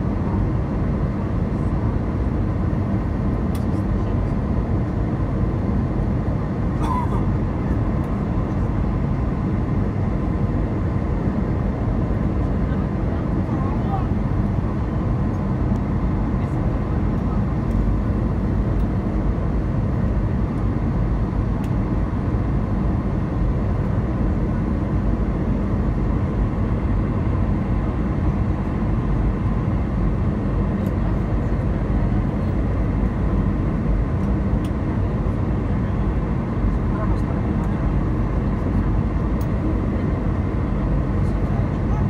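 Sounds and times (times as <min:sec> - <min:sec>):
airplane cabin engine rush: 0:00.0 - 0:42.0.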